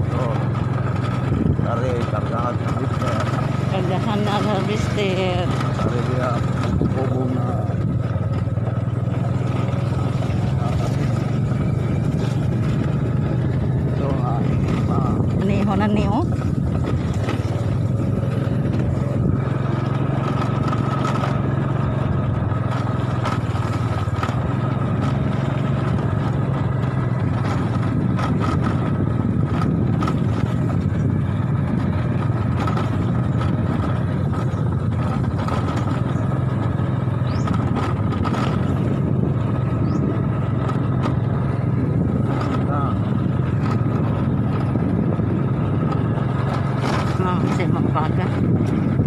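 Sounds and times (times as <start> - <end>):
small motorcycle engine running: 0.0 - 49.0
knocks and rattles: 0.2 - 49.0.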